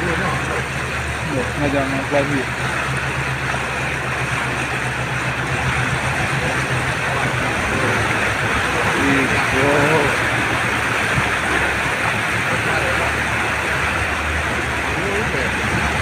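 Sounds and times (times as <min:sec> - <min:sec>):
vehicle engine humming: 0:00.0 - 0:16.0
water rushing and splashing: 0:00.0 - 0:16.0.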